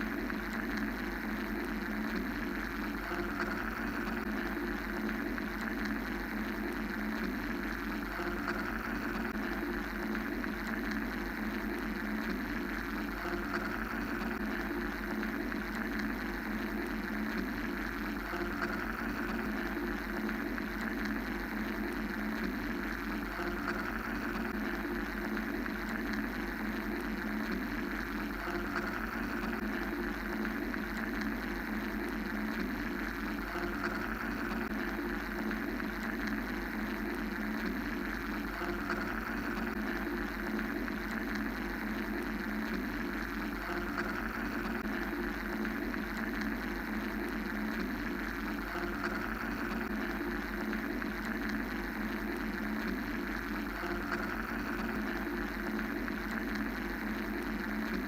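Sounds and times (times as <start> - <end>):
low mechanical hum: 0.0 - 58.0
white noise hiss: 0.0 - 58.0.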